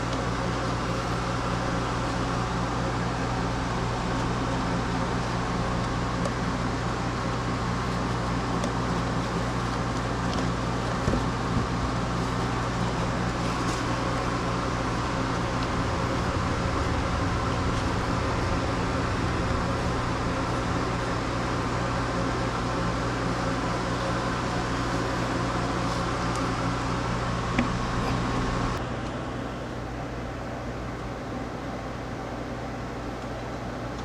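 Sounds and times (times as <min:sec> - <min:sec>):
machine hum: 0:00.0 - 0:29.8.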